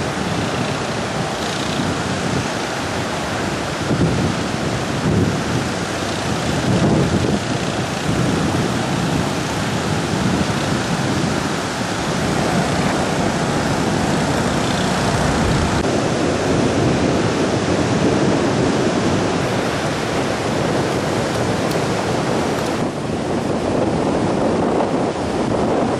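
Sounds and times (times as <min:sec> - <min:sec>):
heavy surf washing onto beach: 0:00.0 - 0:25.9
wind buffeting microphone: 0:00.0 - 0:25.9.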